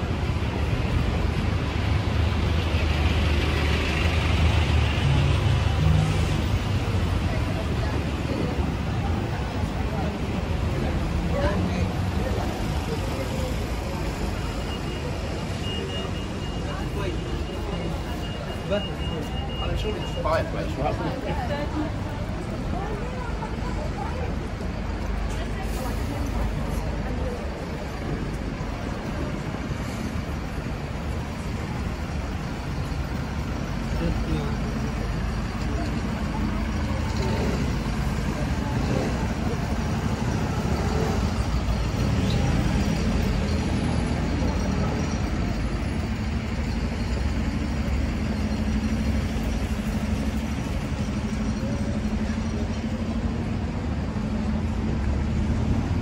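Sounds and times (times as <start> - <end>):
cars and lorries driving past: 0.0 - 56.0
street traffic rumble: 0.0 - 56.0.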